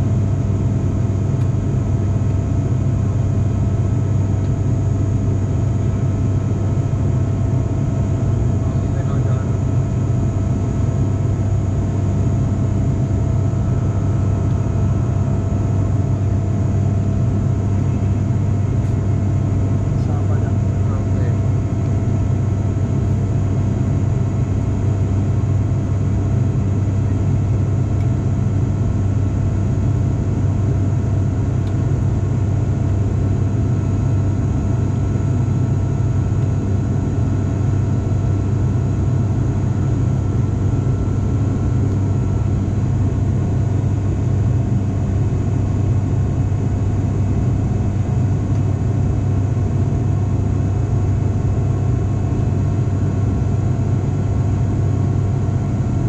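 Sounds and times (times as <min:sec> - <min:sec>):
turboprop cabin drone: 0:00.0 - 0:56.0.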